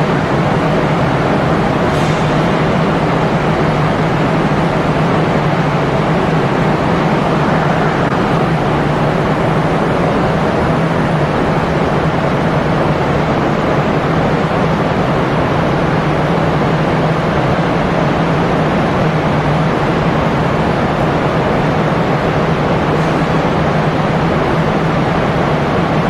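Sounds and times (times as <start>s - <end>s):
loud mechanical roar: 0.0s - 26.0s.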